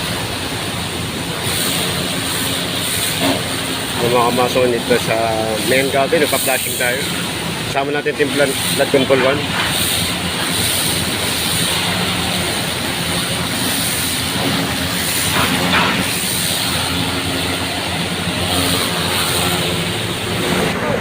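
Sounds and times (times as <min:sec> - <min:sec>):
water jetting from hose: 0:00.0 - 0:21.0.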